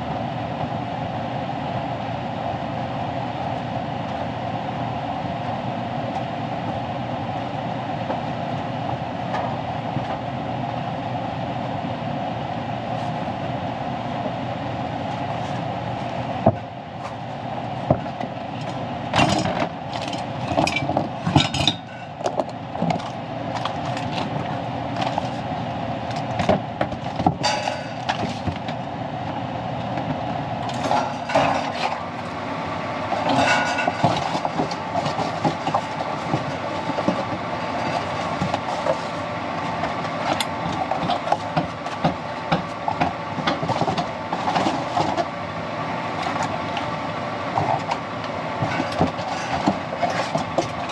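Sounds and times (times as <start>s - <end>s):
furnace fan whirring hum: 0.0s - 50.9s.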